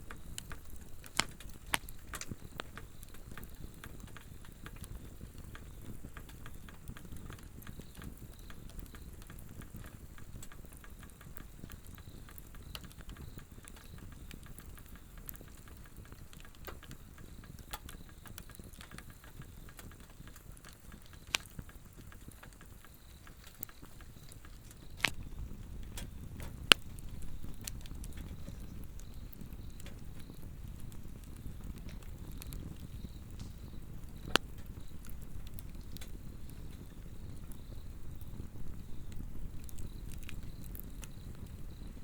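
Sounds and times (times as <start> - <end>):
faint insect chirring: 0.0 - 42.0
log fire crackling and popping: 0.0 - 42.0.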